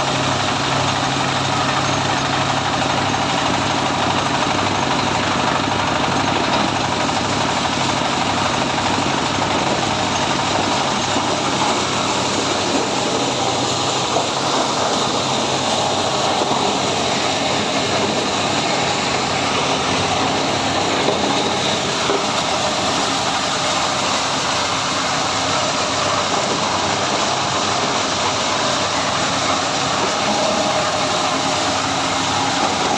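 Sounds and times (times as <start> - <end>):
diesel corn sheller running: 0.0 - 32.9.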